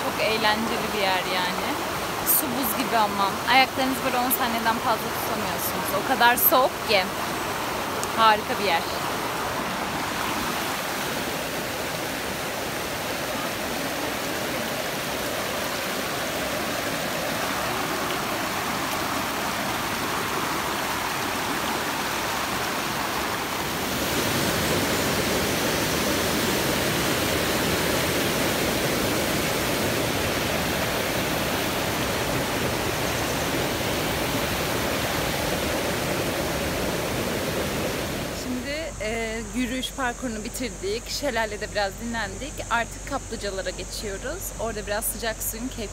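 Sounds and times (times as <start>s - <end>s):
waterfall and stream rushing: 0.0s - 45.9s.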